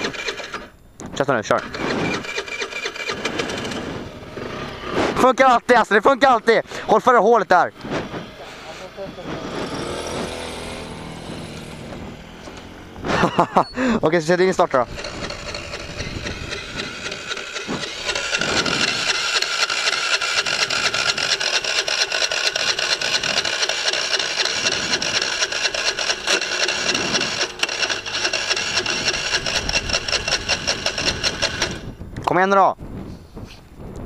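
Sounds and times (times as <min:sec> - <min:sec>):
moped starter cranking engine: 0:00.0 - 0:32.3.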